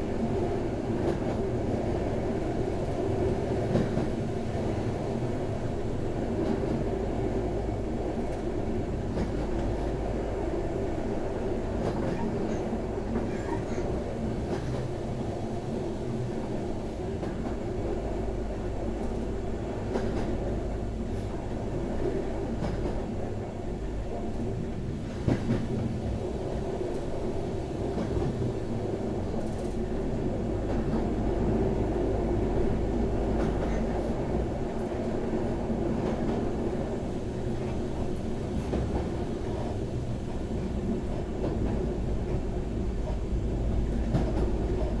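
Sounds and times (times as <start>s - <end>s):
railcar running noise: 0.0s - 45.0s.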